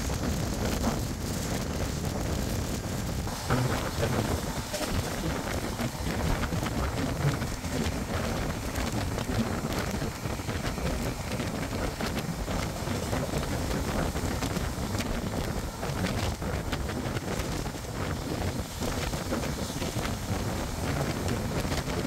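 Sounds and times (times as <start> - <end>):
train wheels rumbling on rails: 0.0 - 22.0
wind blowing across microphone: 0.0 - 22.0.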